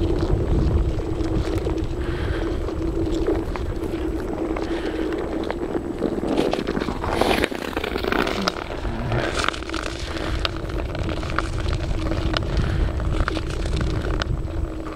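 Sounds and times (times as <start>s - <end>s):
ice skate blades scraping: 0.0s - 14.9s
low wind rumble: 0.0s - 14.9s.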